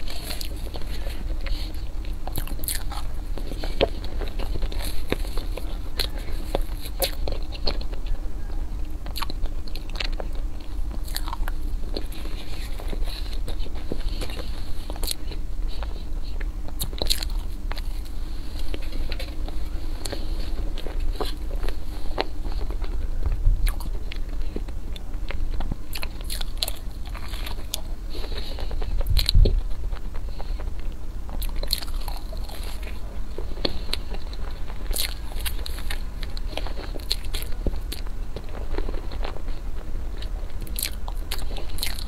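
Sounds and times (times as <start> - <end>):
crisp crunches: 0.0 - 8.2, 8.8 - 42.0
chewing: 0.0 - 42.0
steady low hum: 0.0 - 42.0.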